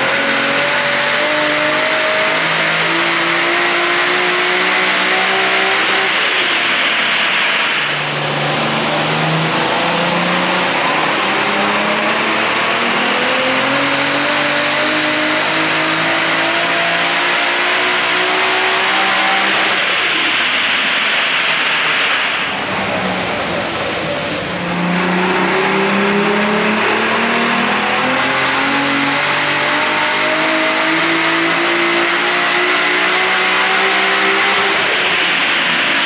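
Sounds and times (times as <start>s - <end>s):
car engine running under load: 0.0s - 36.0s.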